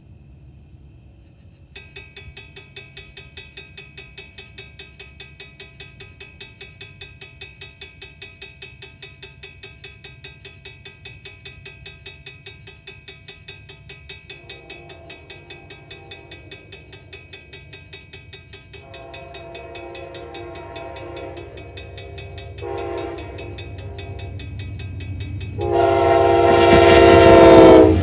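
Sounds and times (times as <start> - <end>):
railroad crossing bell ringing: 1.8 - 28.0.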